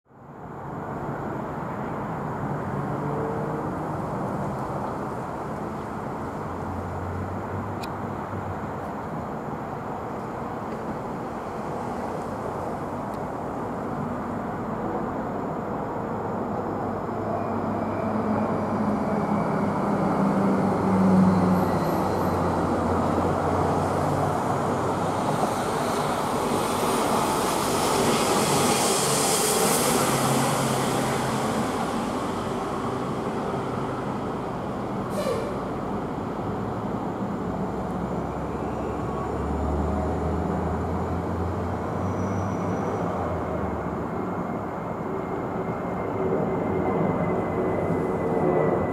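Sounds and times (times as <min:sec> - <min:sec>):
jet engine roar: 0:00.6 - 0:48.9.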